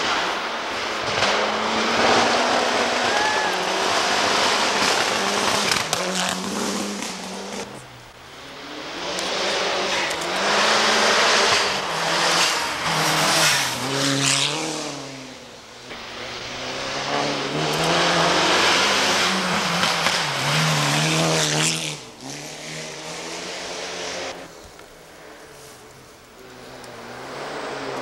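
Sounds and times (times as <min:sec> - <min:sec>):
car engine revving hard: 0:00.0 - 0:07.8, 0:08.6 - 0:15.3, 0:15.9 - 0:24.4.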